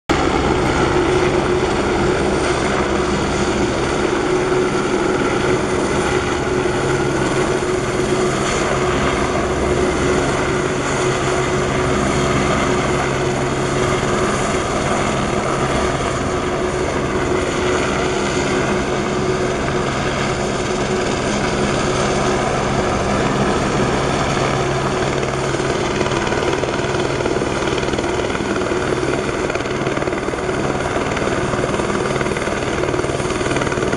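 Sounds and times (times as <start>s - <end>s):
helicopter hovering: 0.1s - 33.9s.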